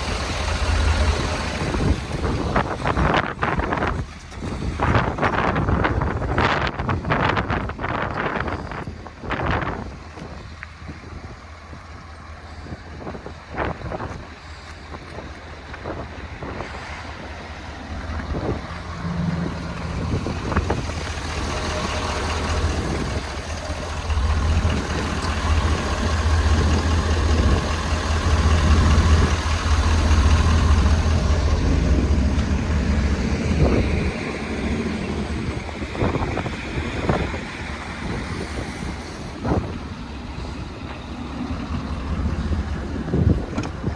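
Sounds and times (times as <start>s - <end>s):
wind noise on microphone: 0.0s - 23.4s, 24.2s - 43.9s
diesel engine running: 0.0s - 43.9s.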